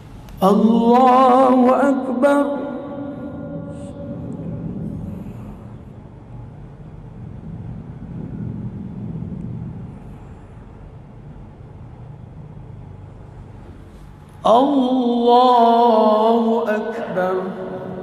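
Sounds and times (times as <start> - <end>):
low room rumble: 0.0 - 18.0.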